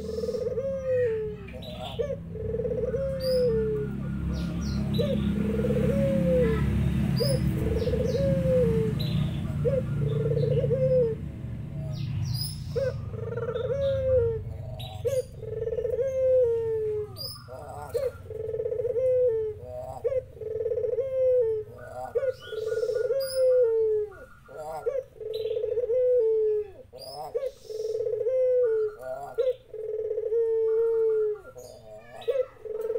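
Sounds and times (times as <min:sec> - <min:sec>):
dove cooing: 0:00.0 - 0:32.9
small birds chirping: 0:00.0 - 0:32.9.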